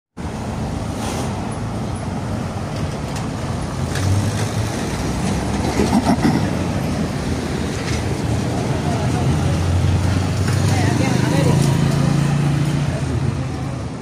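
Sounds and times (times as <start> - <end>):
cars driving on cobblestones: 0.2 - 14.0.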